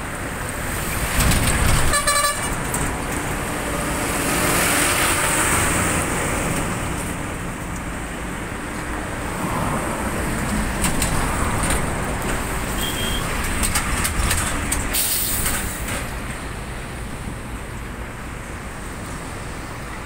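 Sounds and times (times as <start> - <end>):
cars passing on highway: 0.0 - 20.0
rumble of engines and tyres: 0.0 - 20.0.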